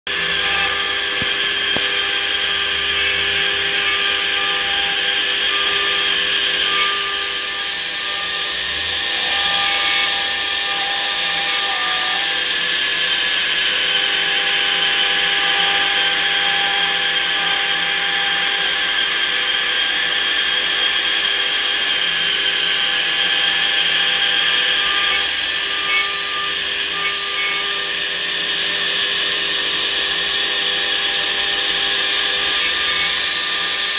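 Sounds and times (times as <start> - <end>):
router spindle whine: 0.1 - 33.9.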